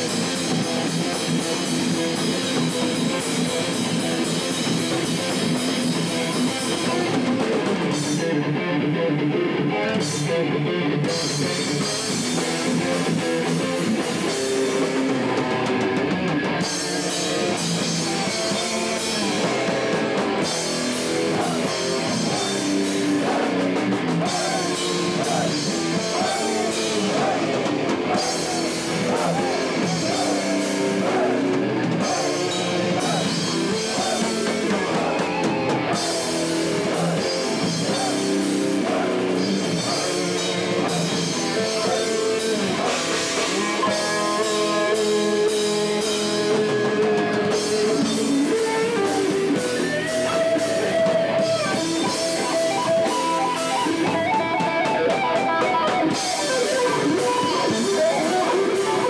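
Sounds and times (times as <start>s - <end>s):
distorted electric guitars: 0.0s - 59.0s
drum kit: 0.0s - 59.0s.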